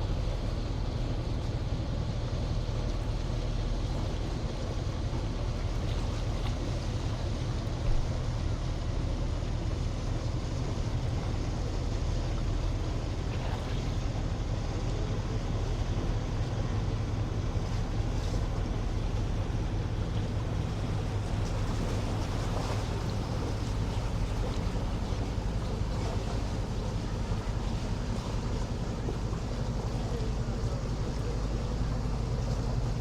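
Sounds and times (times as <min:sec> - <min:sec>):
motorboat engine drone: 0:00.0 - 0:33.0
sea wash: 0:00.0 - 0:33.0.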